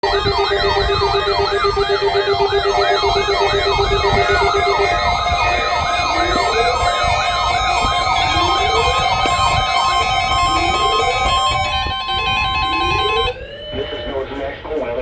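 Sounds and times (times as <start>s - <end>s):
pulsing low siren tone: 0.0s - 14.0s
siren wail: 0.0s - 14.2s
siren yelp: 0.0s - 14.4s.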